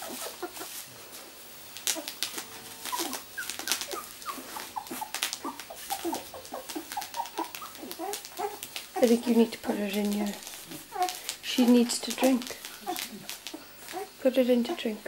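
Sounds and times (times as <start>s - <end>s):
puppies squeaking and whimpering: 0.0s - 0.8s, 1.8s - 14.8s
plastic sheet crinkling: 0.0s - 15.0s.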